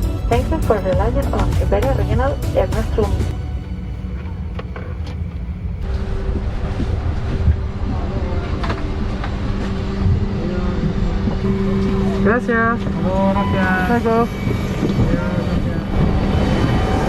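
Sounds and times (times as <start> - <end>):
jet cabin low rumble: 0.0 - 17.0
steady hum: 0.0 - 17.0.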